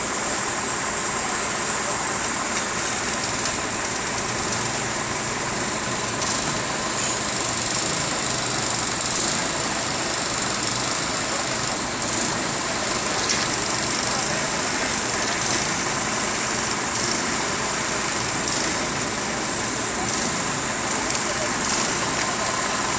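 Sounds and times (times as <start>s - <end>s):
small petrol engine running: 0.0s - 22.9s.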